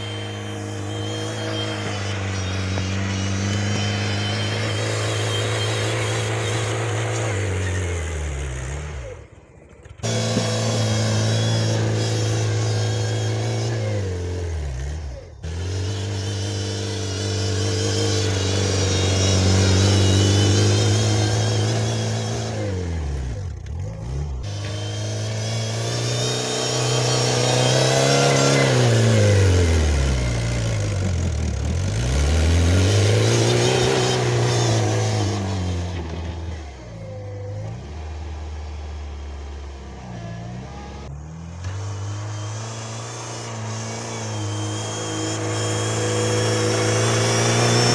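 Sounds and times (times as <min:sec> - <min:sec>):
small tractor engine running hard: 0:00.0 - 0:47.9.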